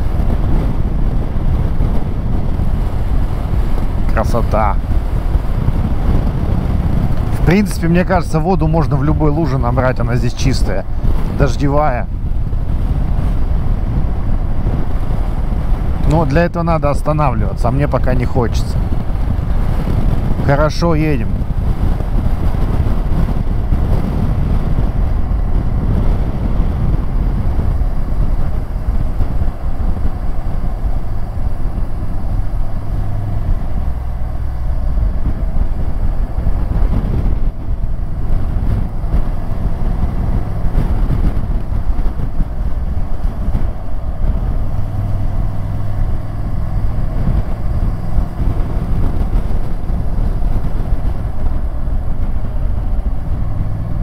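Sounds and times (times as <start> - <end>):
motorcycle engine hum: 0.0 - 54.0
wind buffeting the microphone: 0.0 - 54.0.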